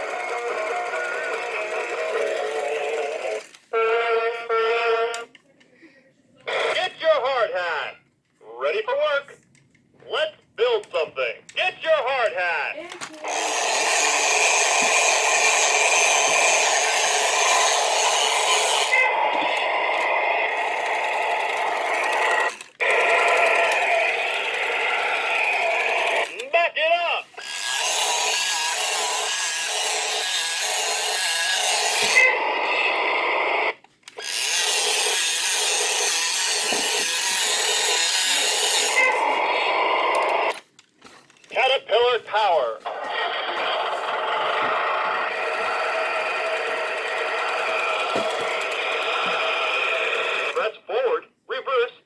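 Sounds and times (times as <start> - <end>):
toy bulldozer machine sound effect: 0.0 - 5.4, 6.4 - 7.8, 11.6 - 26.6, 27.2 - 40.7, 41.4 - 50.9.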